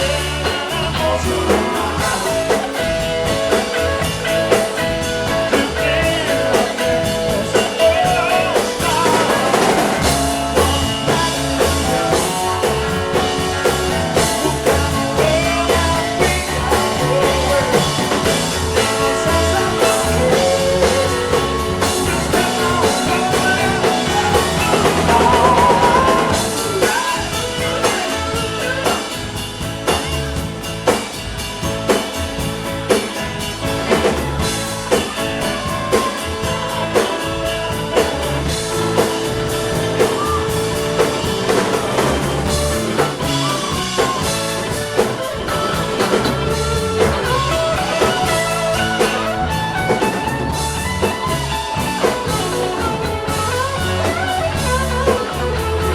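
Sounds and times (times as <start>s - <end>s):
blues-rock band playing: 0.0s - 55.9s
guitar lead with bent notes: 0.0s - 55.9s.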